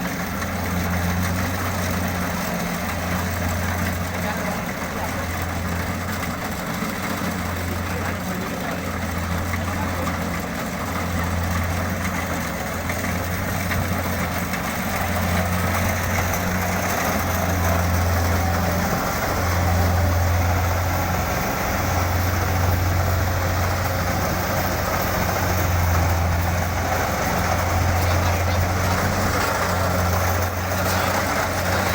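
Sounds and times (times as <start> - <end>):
diesel engine drone: 0.0 - 31.9
rushing of machine working parts: 0.1 - 31.9.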